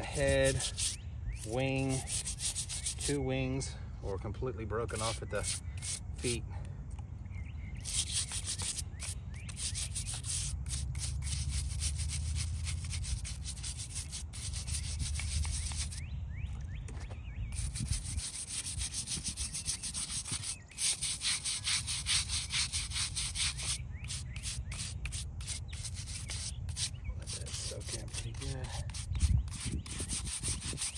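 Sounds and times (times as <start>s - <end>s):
brush scrubbing stone: 0.0s - 3.3s, 4.8s - 6.4s, 7.8s - 16.0s, 17.5s - 30.9s.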